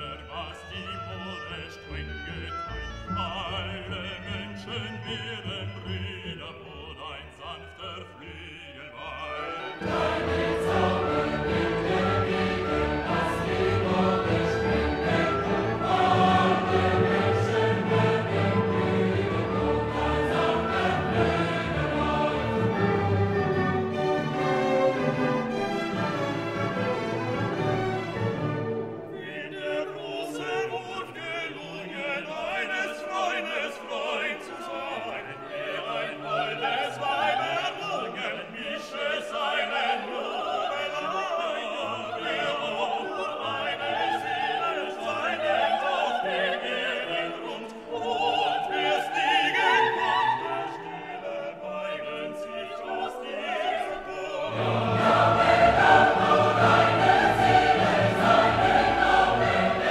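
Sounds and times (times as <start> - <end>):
classical singing with orchestra: 0.0 - 59.9.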